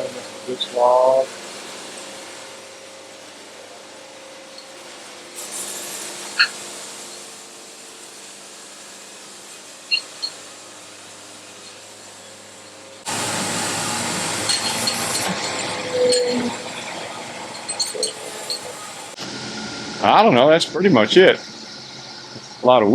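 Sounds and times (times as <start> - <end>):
band sawmill running: 0.0 - 22.9.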